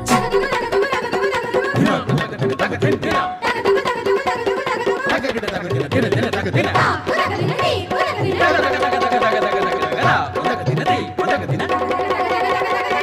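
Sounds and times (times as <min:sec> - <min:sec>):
hand-drum percussion: 0:00.0 - 0:13.0.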